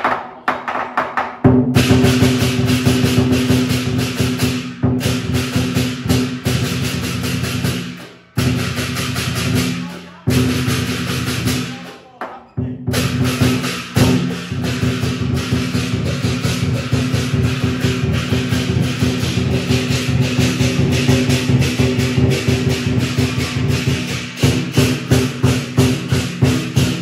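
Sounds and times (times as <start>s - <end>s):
drum beaten in fast strokes: 0.8s - 27.0s
crashing cymbals: 1.8s - 12.0s, 12.9s - 27.0s.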